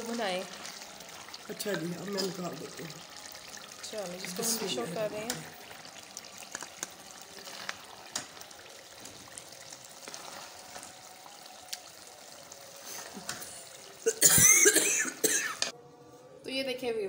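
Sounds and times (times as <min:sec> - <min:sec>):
wooden spoon stirring pot: 0:00.0 - 0:13.9
curry simmering and sizzling: 0:00.0 - 0:15.8.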